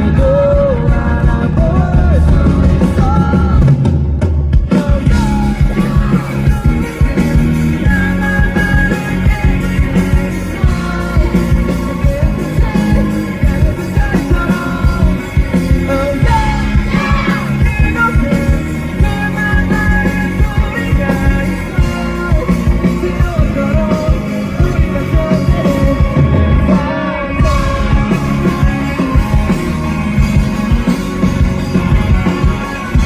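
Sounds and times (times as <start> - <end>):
person singing: 0.0 - 3.9, 4.6 - 33.0
live rock band: 0.0 - 33.0
steady drum beat: 0.0 - 33.0.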